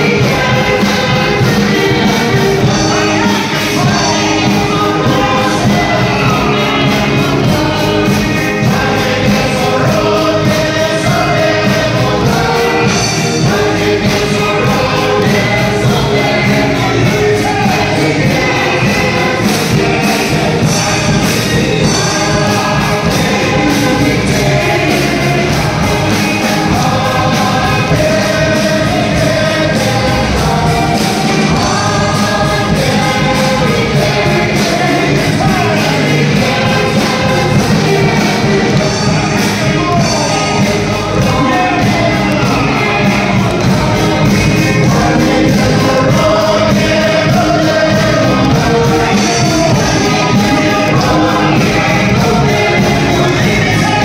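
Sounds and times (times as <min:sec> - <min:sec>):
choir singing gospel: 0:00.0 - 0:54.0
instrumental backing with beat: 0:00.0 - 0:54.0.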